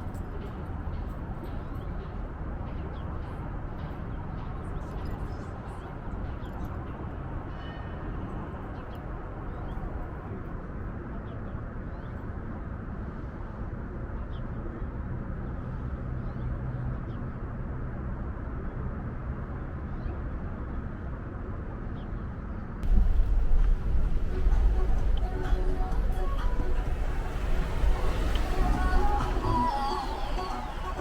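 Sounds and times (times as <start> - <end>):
outdoor background rumble: 0.0 - 31.0.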